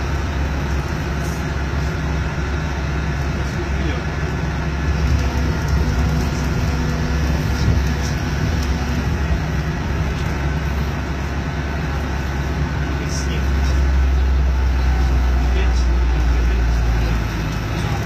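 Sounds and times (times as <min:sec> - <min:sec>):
monorail car rumble: 0:00.0 - 0:18.0.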